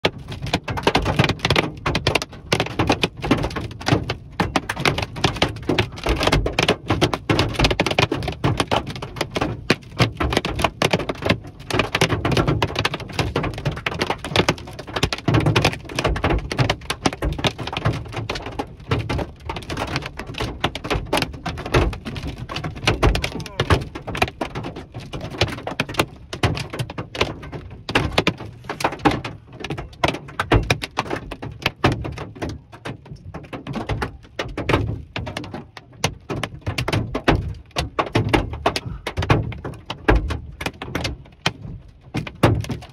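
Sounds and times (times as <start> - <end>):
hail clattering on vehicle roof: 0.0 - 42.9.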